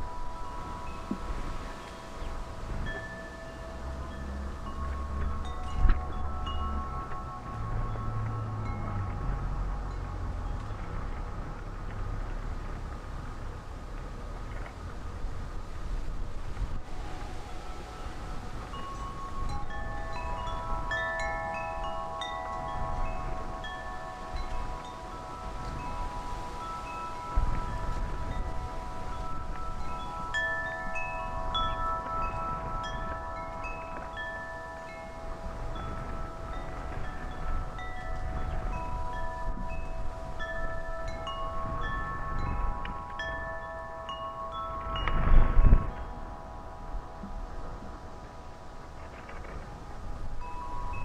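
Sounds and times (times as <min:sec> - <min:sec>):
wind chimes ringing: 0:00.0 - 0:14.6, 0:15.2 - 0:51.0
wind rumbling on microphone: 0:00.0 - 0:51.0.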